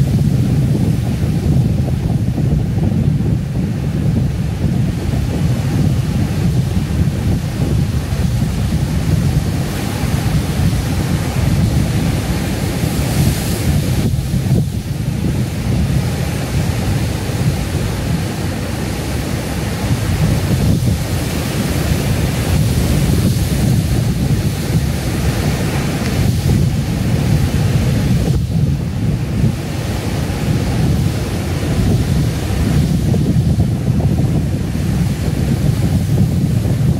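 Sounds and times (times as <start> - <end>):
heavy surf crashing on rocks: 0.0 - 36.9
wind buffeting microphone: 0.0 - 36.9.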